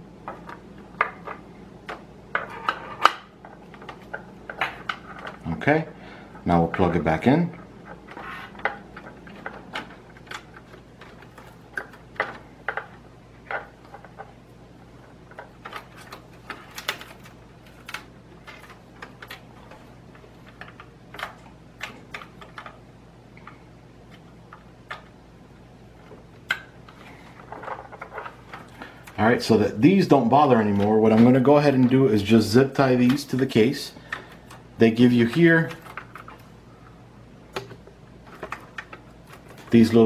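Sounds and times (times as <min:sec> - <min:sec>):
faint low hum: 0:00.0 - 0:40.0.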